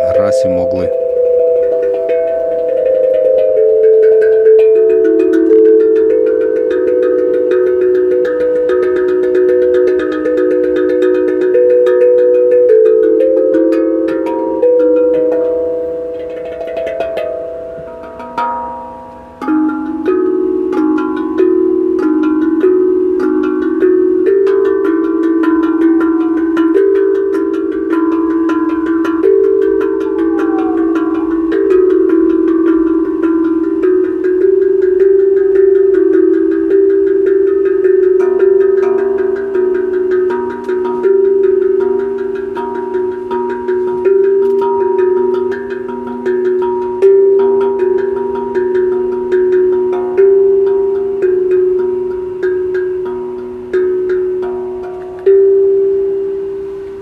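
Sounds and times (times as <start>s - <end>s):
bell-like tuned percussion melody: 0.0s - 57.0s.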